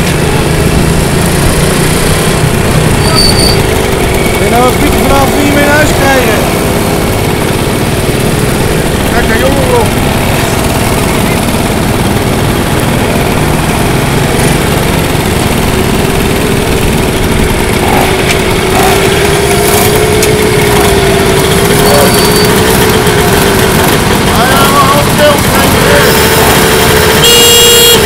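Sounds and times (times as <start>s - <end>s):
moped engines droning: 0.0s - 28.0s
wavering engine note: 0.0s - 28.0s.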